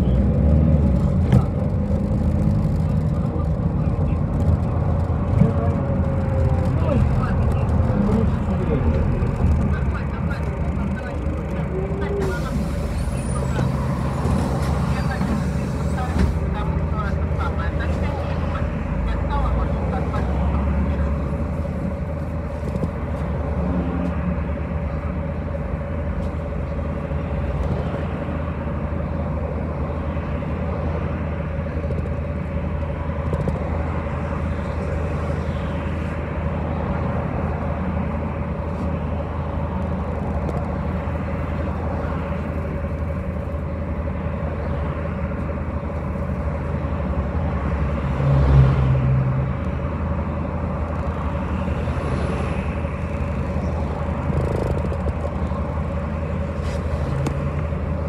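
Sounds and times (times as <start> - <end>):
bus engine and road noise: 0.0 - 58.0.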